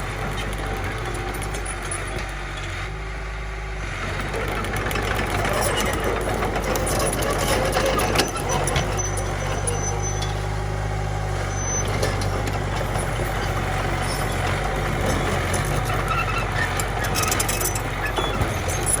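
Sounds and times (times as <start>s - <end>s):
bulldozer engine running: 0.0s - 19.0s.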